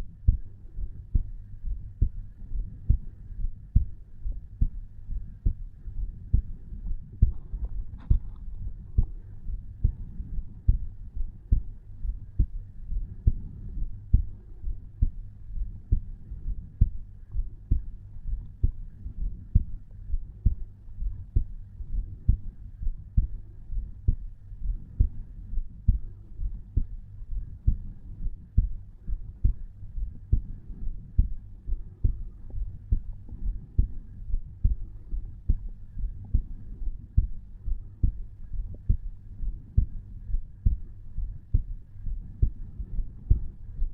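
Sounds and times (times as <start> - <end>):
heartbeat lub-dub thumps: 0.0 - 43.9.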